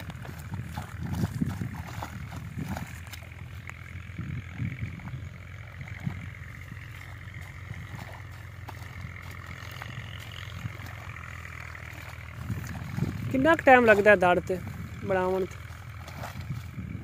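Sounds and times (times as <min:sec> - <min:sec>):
engine humming: 0:00.0 - 0:17.0
spade squelching wet mud: 0:00.0 - 0:17.0.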